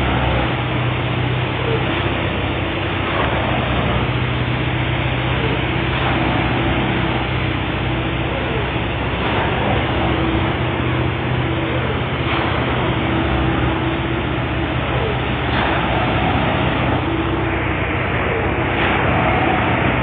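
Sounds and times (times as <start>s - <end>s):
heavy diesel railway machine: 0.0s - 20.0s.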